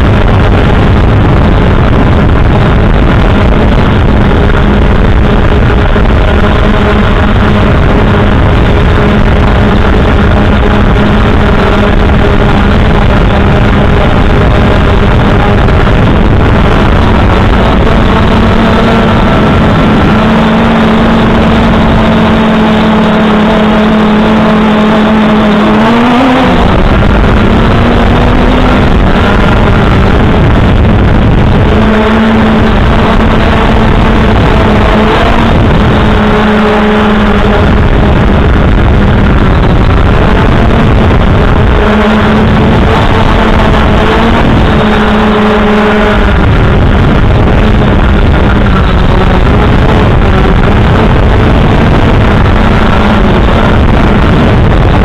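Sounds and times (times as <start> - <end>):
drone motors buzzing: 0.0 - 55.0
wind noise: 0.0 - 55.0.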